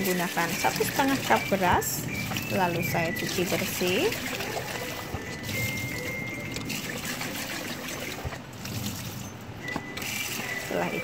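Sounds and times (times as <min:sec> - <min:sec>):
tap water running into pot: 0:00.0 - 0:11.0.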